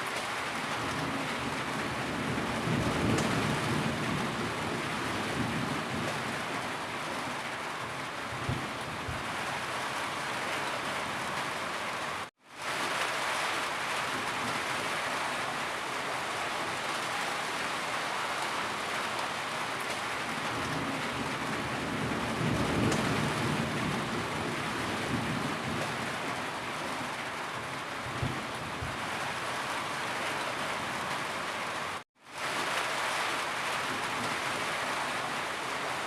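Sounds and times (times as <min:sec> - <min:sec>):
steady rainfall: 0:00.0 - 0:36.0.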